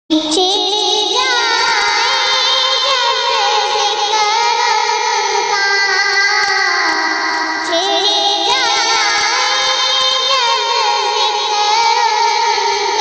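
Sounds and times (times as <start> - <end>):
woman singing: 0.1 - 13.0.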